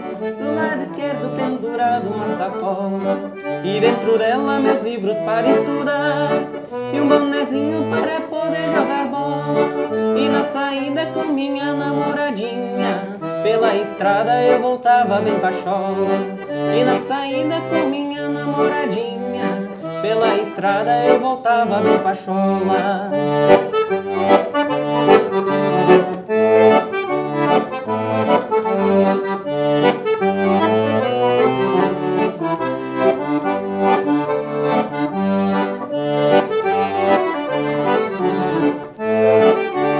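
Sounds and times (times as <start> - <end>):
piano accordion playing: 0.0 - 39.9.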